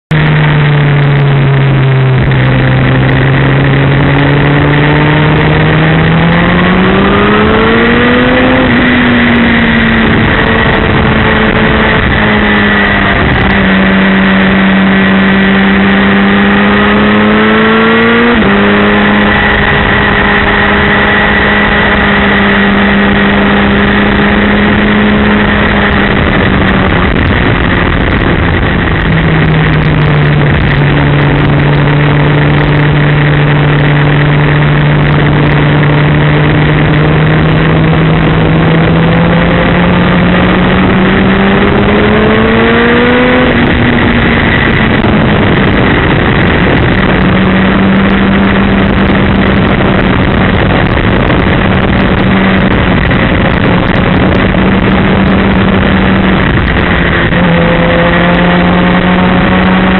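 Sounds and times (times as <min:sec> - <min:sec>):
motorcycle engine at speed: 0:00.0 - 0:59.9
wind rush: 0:00.1 - 0:59.9.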